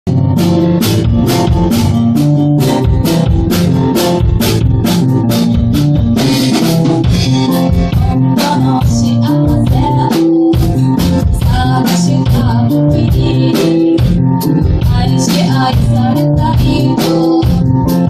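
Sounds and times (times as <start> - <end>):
drum kit beat: 0.1 - 18.0
pop-rock band playing: 0.1 - 18.0.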